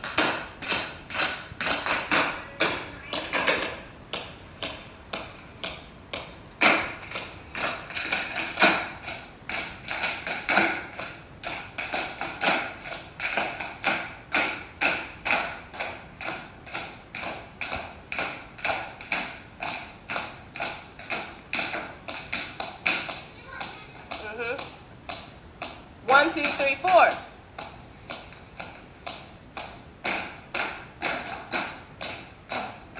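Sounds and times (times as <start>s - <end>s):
tap shoes clicking on hard floor: 0.0s - 32.9s.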